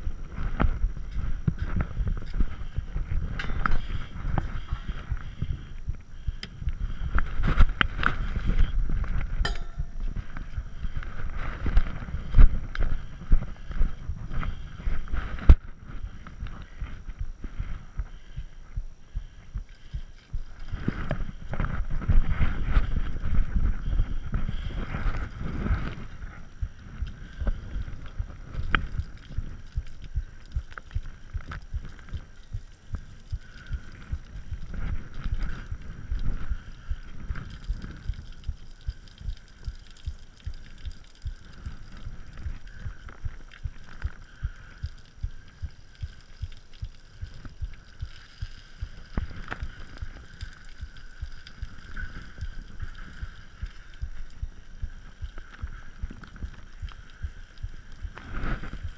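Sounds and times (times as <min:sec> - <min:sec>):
dull low thumps: 0:00.0 - 0:58.9.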